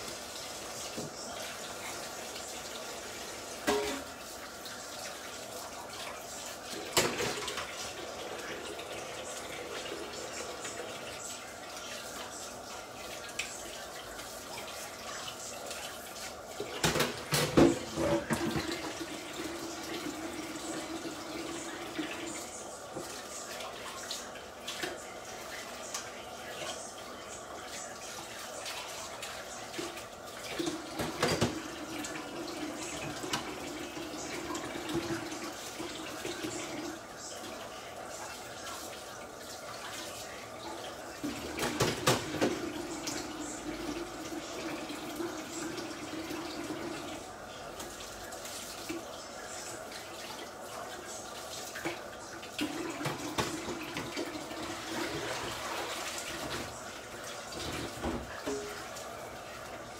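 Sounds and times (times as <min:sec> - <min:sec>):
kitchen tap running: 0:00.0 - 0:59.9.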